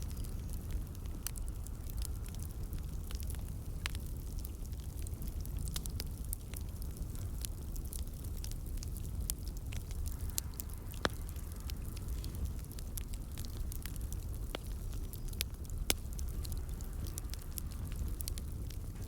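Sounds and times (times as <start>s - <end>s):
firewood crackling and popping: 0.0s - 19.0s
low steady fire rumble: 0.0s - 19.0s.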